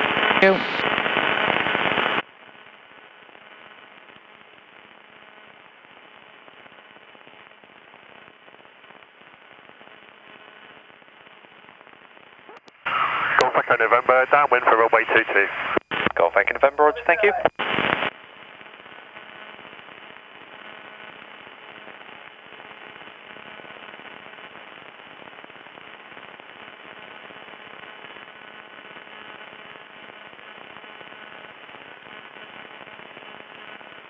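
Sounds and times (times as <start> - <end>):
radio static crackling: 0.0 - 34.0.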